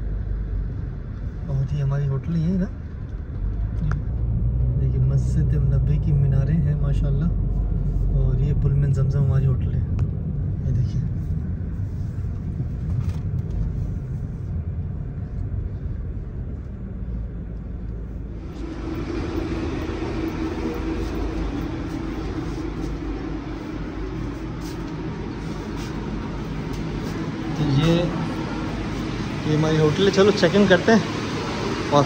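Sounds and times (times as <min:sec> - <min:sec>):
car ride rumble: 0:00.0 - 0:32.0
steady hum: 0:00.0 - 0:32.0.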